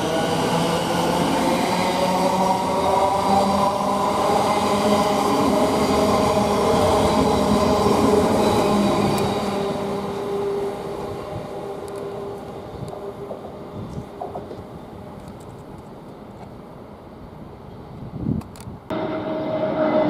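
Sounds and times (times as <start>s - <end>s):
rail noise: 0.0s - 20.0s.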